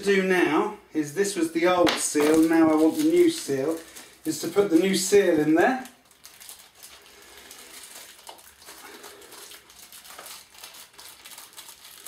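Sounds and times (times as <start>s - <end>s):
hands rustling and crinkling: 1.8s - 12.0s.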